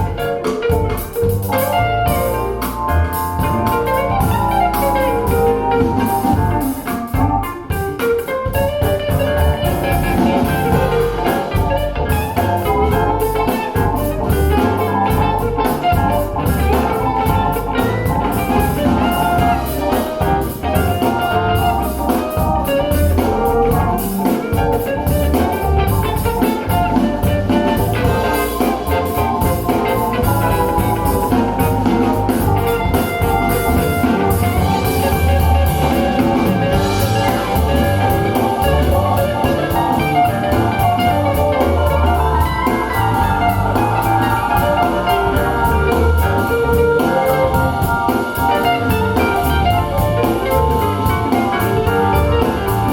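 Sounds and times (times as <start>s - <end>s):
instrumental music with guitar and drums: 0.0s - 52.9s.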